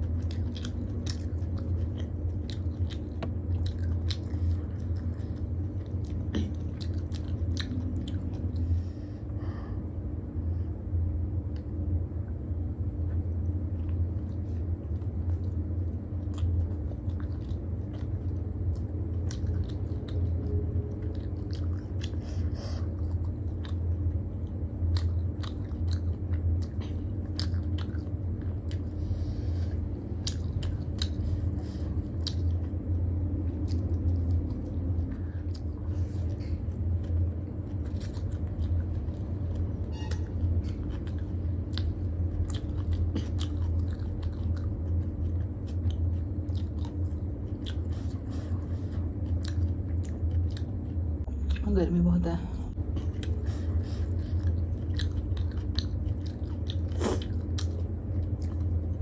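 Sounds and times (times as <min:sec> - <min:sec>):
person chewing with wet smacks: 0:00.0 - 0:09.0, 0:11.3 - 0:11.9, 0:12.9 - 0:51.6, 0:52.7 - 0:59.0
steady low hum: 0:00.0 - 0:59.0.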